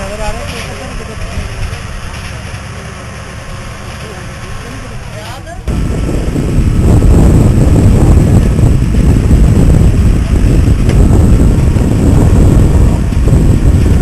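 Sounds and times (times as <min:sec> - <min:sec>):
drilling rig mechanical rumble: 0:00.0 - 0:14.0.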